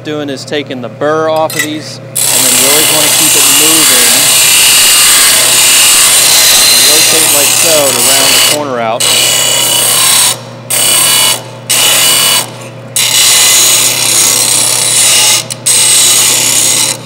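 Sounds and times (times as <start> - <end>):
motor hum: 0.0 - 17.0
sander grinding metal: 2.2 - 17.0.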